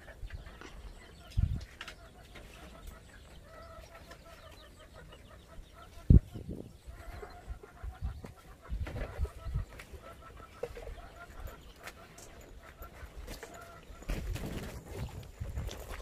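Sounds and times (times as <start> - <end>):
chickens clucking faintly: 0.0 - 16.0.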